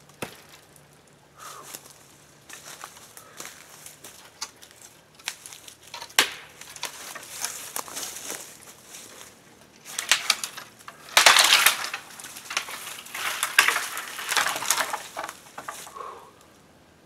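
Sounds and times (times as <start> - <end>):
dry leaves rustling: 0.0 - 16.2
twigs crackling and snapping: 0.0 - 16.6.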